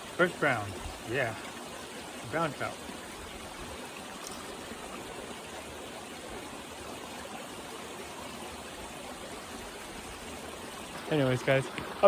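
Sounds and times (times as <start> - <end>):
creek water flowing over rocks: 0.0 - 12.0.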